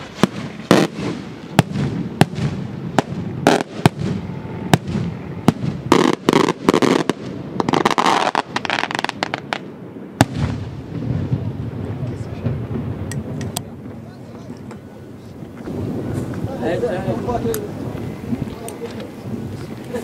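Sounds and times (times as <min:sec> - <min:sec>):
fireworks bursting with sharp bangs: 0:00.0 - 0:20.0
fireworks crackling volley: 0:00.0 - 0:20.0.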